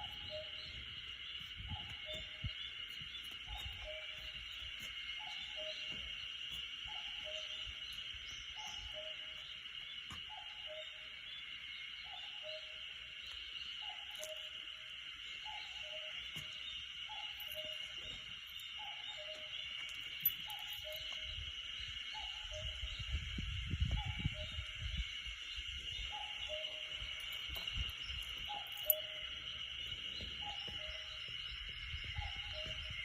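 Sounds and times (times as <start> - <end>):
cuckoo calling: 0.0 - 11.4, 12.0 - 25.0, 25.8 - 33.0.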